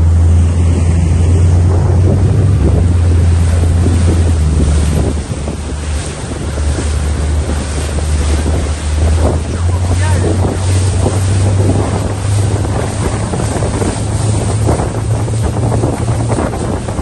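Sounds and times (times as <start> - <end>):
boat engine drone: 0.0 - 17.0
water slapping against hull: 0.0 - 17.0
wind buffeting microphone: 0.0 - 17.0.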